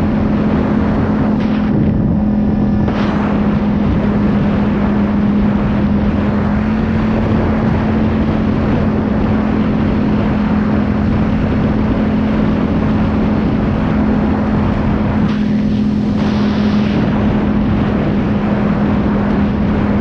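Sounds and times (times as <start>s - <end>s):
rushing noise: 0.0s - 20.0s
vehicle engine humming: 0.0s - 20.0s.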